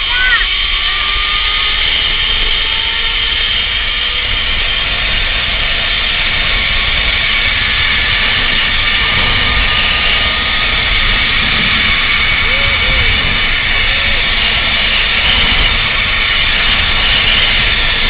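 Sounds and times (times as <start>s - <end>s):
zipline pulleys whirring on cable: 0.0s - 18.0s
wind on microphone: 1.8s - 18.0s.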